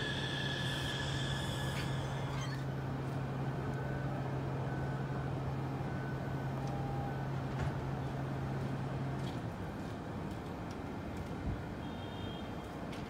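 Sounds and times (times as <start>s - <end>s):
light-rail train humming: 0.0s - 13.0s.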